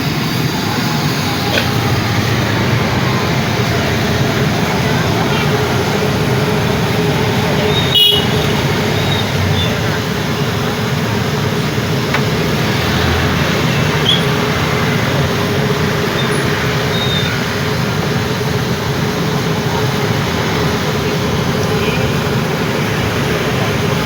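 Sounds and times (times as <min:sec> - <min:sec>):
street and vehicle noise: 0:00.0 - 0:24.0.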